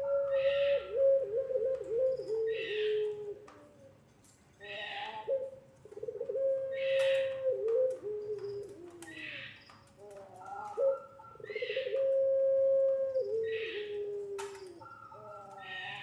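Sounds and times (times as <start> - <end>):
dove cooing: 0.0 - 4.0, 4.6 - 16.0.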